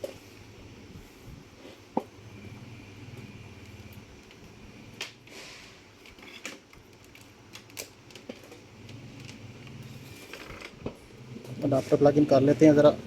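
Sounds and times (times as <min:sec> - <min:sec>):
laptop fan humming: 0:00.0 - 0:13.0.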